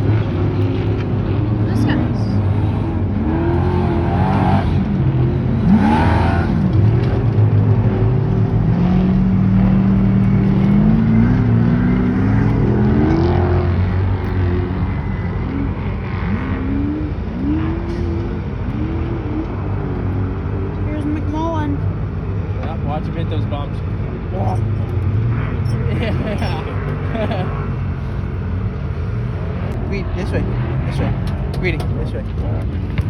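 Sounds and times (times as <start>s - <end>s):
truck engines revving hard: 0.0s - 33.0s.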